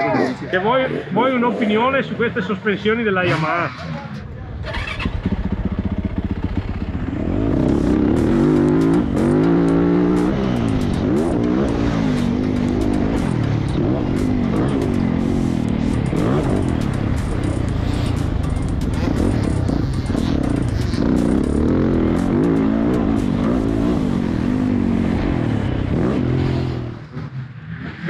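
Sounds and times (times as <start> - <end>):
motocross bike engine revving: 3.3 - 28.0.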